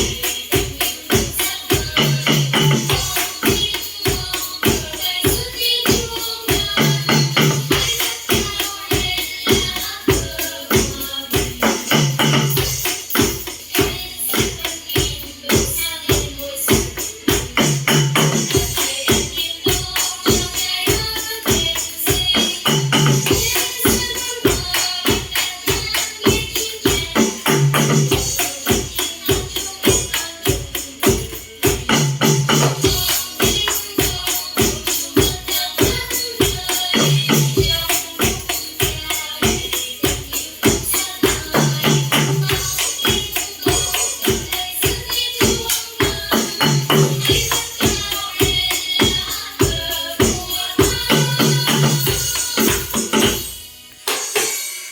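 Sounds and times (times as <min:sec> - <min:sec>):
fast beat music with percussion: 0:00.0 - 0:54.9.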